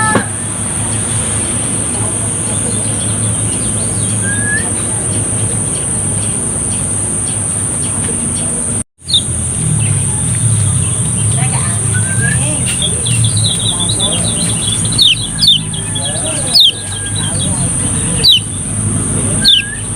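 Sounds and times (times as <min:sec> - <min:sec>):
high-pitched whine: 0:00.0 - 0:19.9
low outdoor hum: 0:00.0 - 0:19.9
bird chirps: 0:02.4 - 0:19.9.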